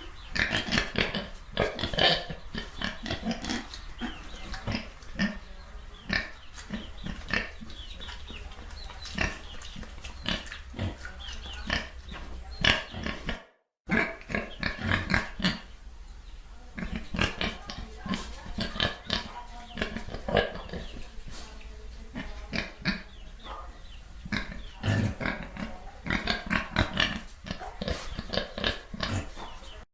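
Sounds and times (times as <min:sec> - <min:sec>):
pigs grunting and oinking: 0:00.0 - 0:15.7, 0:16.7 - 0:21.1, 0:22.1 - 0:23.2, 0:24.2 - 0:29.8.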